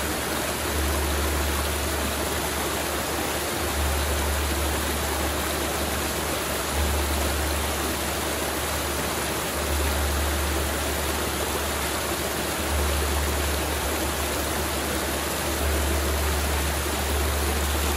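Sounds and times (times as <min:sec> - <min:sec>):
river water rushing: 0:00.0 - 0:17.9.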